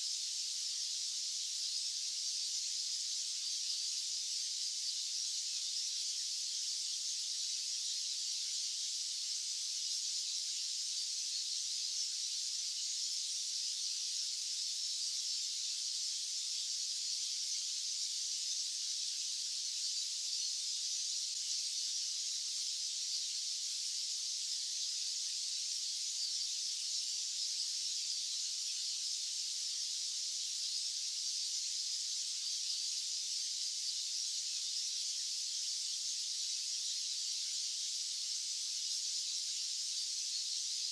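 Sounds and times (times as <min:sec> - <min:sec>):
high-pitched white noise hiss: 0:00.0 - 0:40.9.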